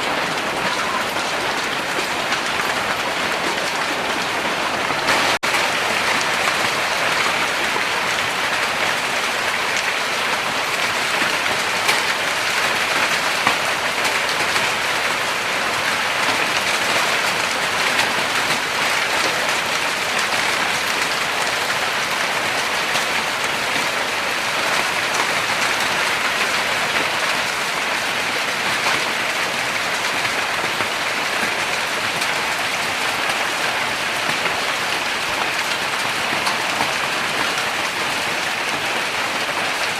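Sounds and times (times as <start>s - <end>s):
heavy rain and hail pelting: 0.0s - 39.9s.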